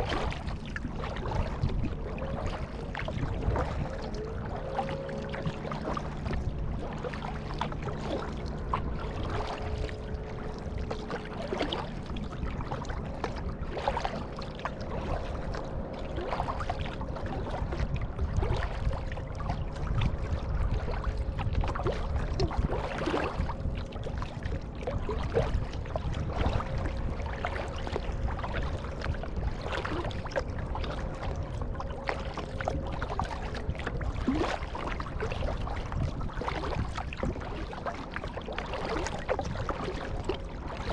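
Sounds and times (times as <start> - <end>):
paddle strokes in water: 0.0 - 40.9
water rushing against hull: 0.0 - 40.9
water trickling off paddle: 0.0 - 40.9.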